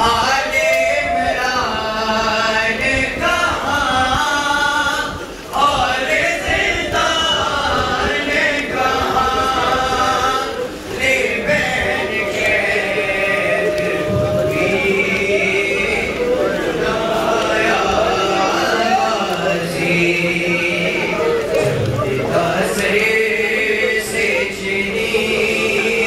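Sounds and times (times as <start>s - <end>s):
crowd rumble: 0.0s - 26.0s
many voices chanting lament: 0.0s - 26.0s.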